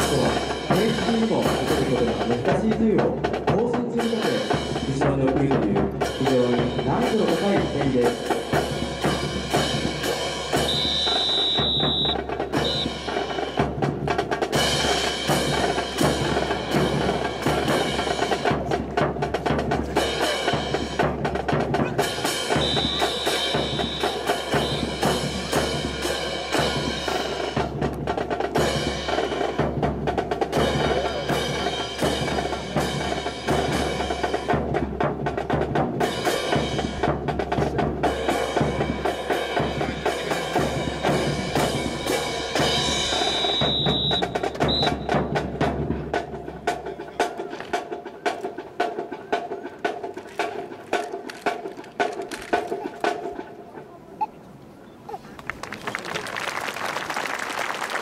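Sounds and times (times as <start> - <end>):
marching music with drums: 0.0 - 53.9.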